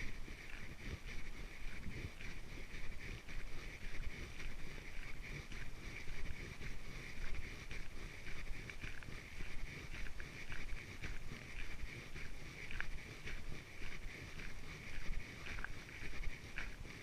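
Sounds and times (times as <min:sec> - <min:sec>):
footsteps on a trail: 0:00.0 - 0:17.0
wind rumbling on microphone: 0:00.0 - 0:17.0.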